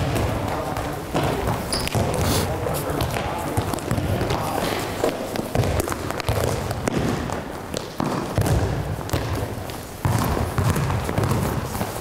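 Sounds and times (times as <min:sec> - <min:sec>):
balls kicked and bouncing: 0:00.0 - 0:12.0
low hall hum: 0:00.0 - 0:12.0.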